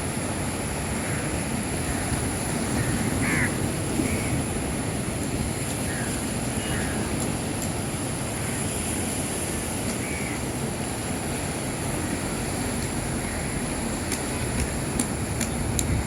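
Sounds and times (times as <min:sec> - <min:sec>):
sea waves and wind rushing: 0:00.0 - 0:16.0.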